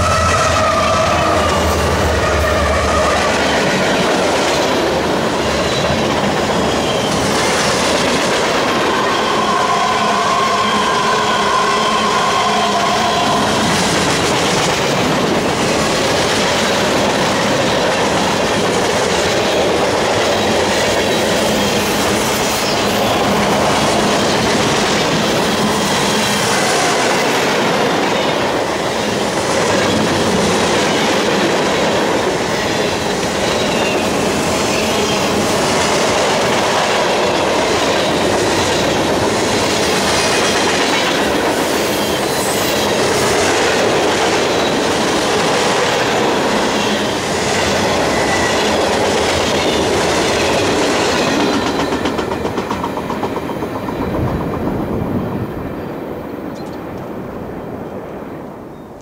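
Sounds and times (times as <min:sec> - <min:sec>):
clickety-clack over rail joints: 0:00.0 - 0:09.8, 0:12.8 - 0:55.6
freight train wheels rumbling on rails: 0:00.0 - 0:59.0.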